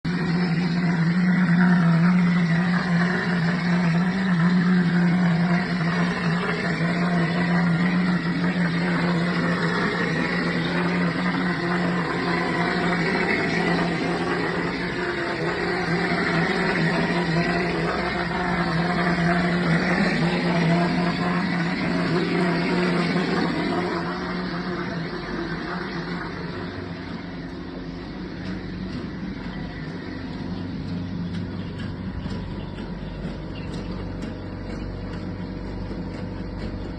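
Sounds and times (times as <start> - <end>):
plaster spraying machine running: 0.0 - 36.9.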